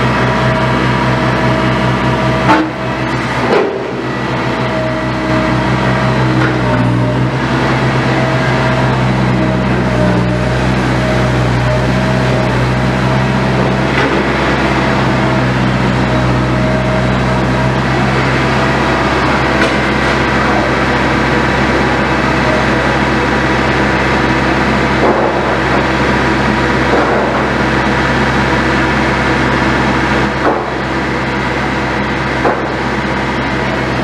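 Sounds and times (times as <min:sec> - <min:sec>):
high-pitched whine: 0:00.0 - 0:30.4
excavator diesel engine running: 0:00.0 - 0:34.0.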